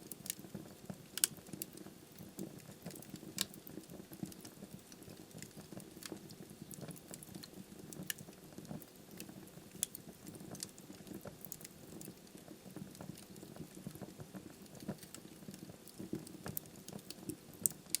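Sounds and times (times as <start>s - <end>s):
logs crackling and popping: 0.0s - 18.0s
wood fire burning: 0.0s - 18.0s.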